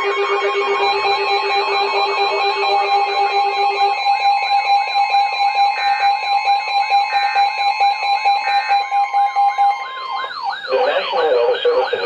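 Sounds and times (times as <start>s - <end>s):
wavering high tone: 0.0s - 11.3s
electronic siren tone: 0.0s - 12.0s
steady two-tone alarm: 0.0s - 12.0s.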